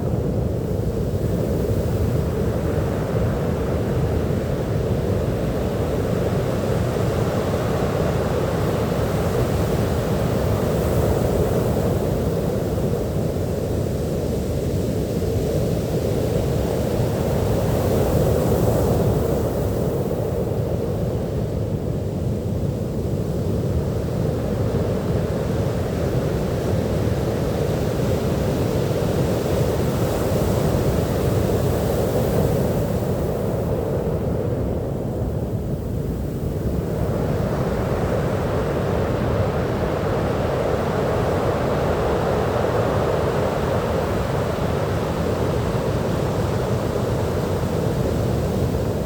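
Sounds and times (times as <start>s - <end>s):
low rumble of waves: 0.0s - 49.0s.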